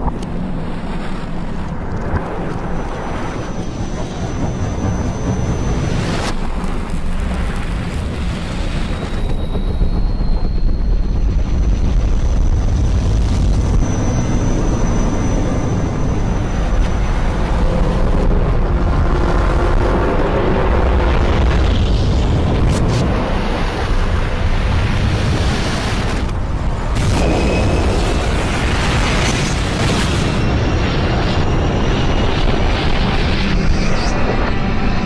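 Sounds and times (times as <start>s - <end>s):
helicopter rotor rumble: 1.3s - 35.0s.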